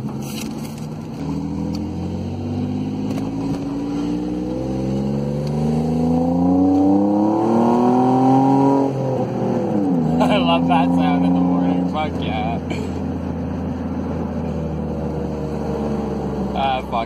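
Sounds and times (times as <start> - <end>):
car engine accelerating hard: 0.7 - 17.0.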